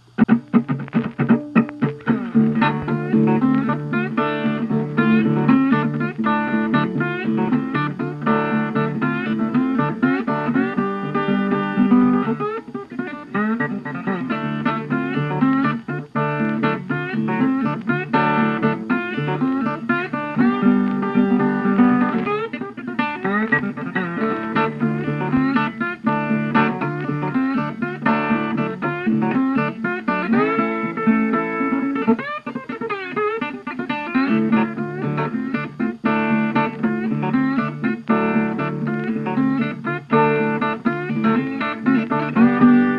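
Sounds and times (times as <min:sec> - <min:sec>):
plucked guitar tune: 0:00.0 - 0:42.9.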